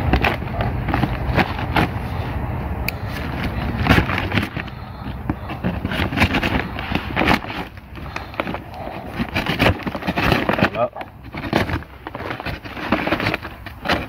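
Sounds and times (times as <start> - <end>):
bag crackling and rustling: 0.0 - 14.0.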